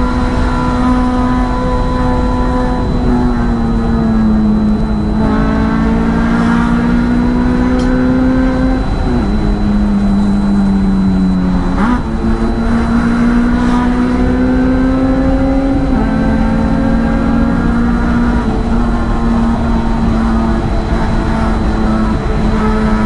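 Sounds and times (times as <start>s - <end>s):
car engine accelerating: 0.0s - 23.0s
road and tyre noise: 0.0s - 23.0s.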